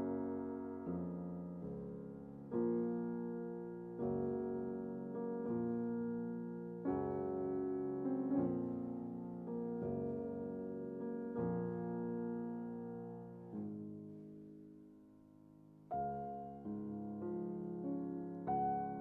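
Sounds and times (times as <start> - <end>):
soft electric piano chords: 0.0 - 19.0.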